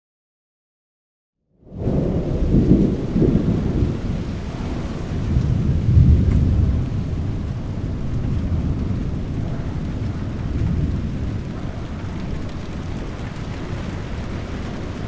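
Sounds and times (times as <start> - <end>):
thunder rumbling: 1.6 - 15.0
rain hissing: 1.7 - 15.0.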